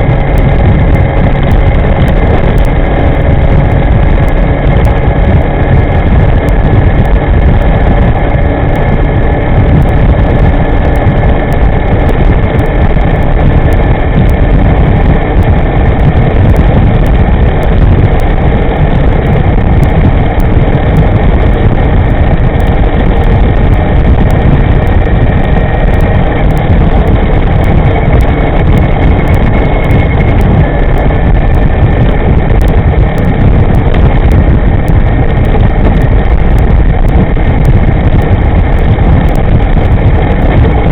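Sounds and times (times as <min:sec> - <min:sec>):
electric scooter road rumble: 0:00.0 - 0:40.9
faint high whine: 0:00.0 - 0:40.9
wind buffeting microphone: 0:00.0 - 0:40.9.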